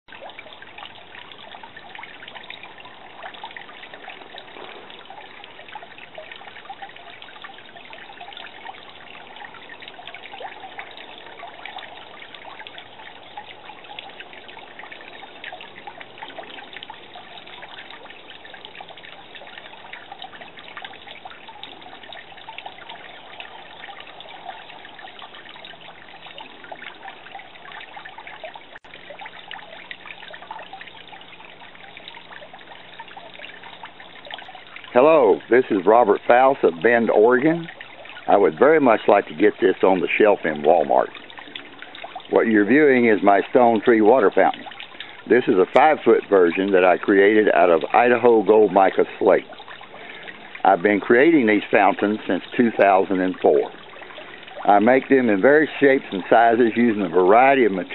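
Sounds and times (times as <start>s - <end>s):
fountain water trickling and splashing: 0.0s - 57.9s.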